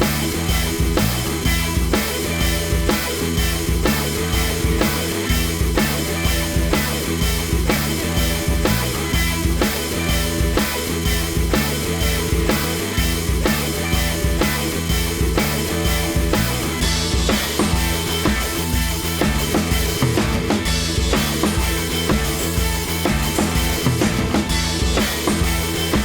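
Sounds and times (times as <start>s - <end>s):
drum kit beat: 0.0s - 26.0s
electric guitar: 0.0s - 26.0s.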